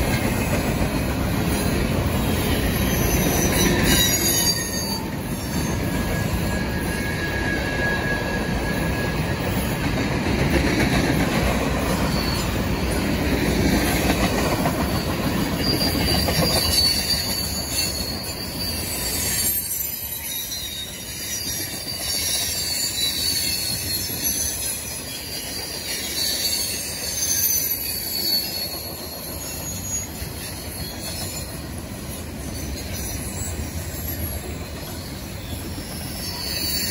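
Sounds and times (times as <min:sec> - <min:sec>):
train wheels rumbling on rail: 0:00.0 - 0:36.9
high wavering wheel squeal: 0:01.5 - 0:09.9, 0:11.7 - 0:13.3, 0:14.6 - 0:36.9.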